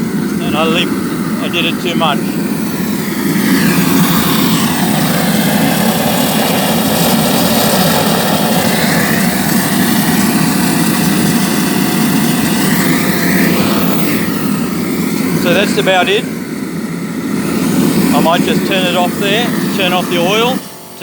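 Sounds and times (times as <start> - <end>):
air blast: 0.0 - 21.0
oil furnace roaring: 0.0 - 21.0.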